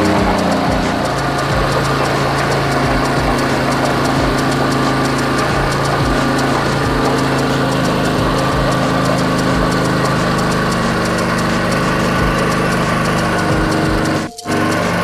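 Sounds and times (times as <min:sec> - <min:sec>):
small generator engine idling: 0:00.0 - 0:15.0.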